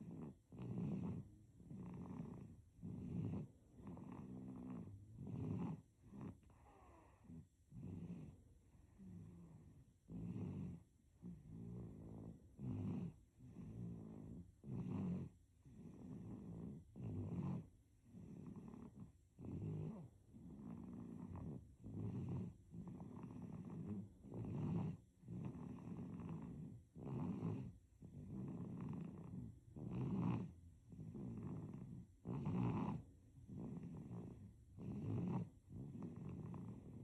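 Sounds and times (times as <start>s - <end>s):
baby snoring: 0.0s - 37.0s.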